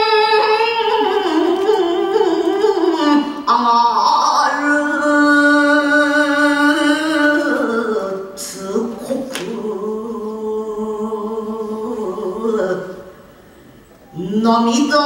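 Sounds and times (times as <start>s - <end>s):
person chanting poetry: 0.0s - 13.2s, 14.1s - 15.0s.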